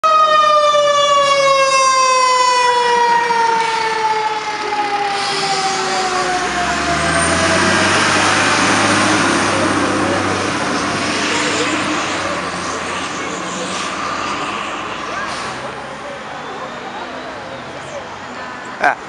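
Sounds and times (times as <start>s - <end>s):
road noise: 0.0s - 19.0s
truck engine rumble: 0.1s - 19.0s.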